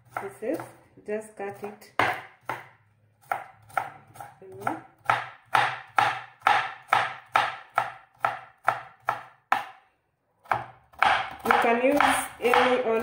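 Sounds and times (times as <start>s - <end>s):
knife chopping on wooden board: 0.0s - 0.8s, 1.5s - 9.8s, 10.4s - 13.0s.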